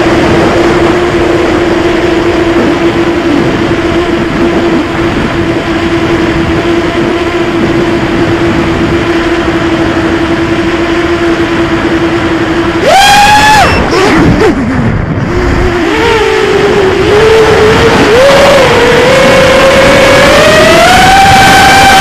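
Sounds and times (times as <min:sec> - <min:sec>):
quadcopter motors whining: 0:00.0 - 0:22.0
wind rush: 0:00.0 - 0:22.0.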